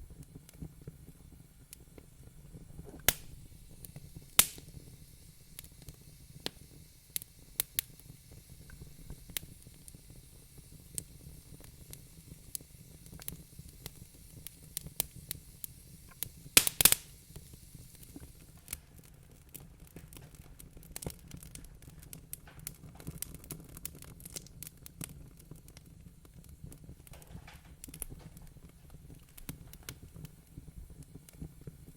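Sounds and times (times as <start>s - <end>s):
low rumble of fire: 0.0s - 31.9s
wood fire crackling: 0.0s - 31.9s.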